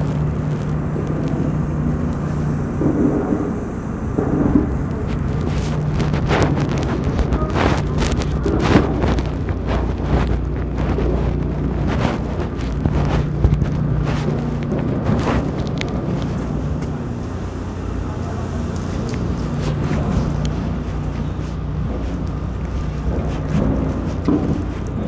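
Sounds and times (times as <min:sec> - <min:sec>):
traffic engine hum: 0:00.0 - 0:25.0
wind buffeting microphone: 0:00.0 - 0:25.0.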